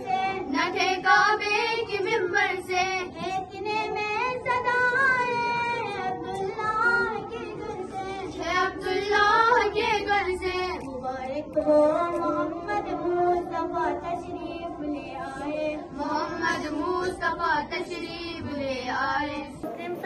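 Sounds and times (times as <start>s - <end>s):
girl singing devotional song: 0.0s - 20.0s.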